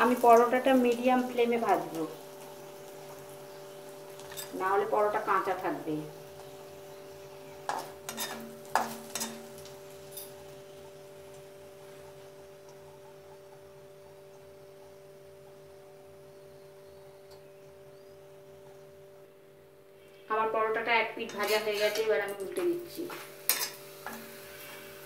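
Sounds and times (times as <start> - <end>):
bread sizzling in oil: 0.0 - 17.2, 21.2 - 25.0.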